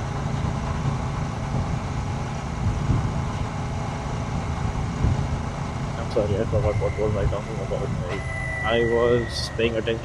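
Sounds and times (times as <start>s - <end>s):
rushing air and road noise: 0.0s - 10.0s.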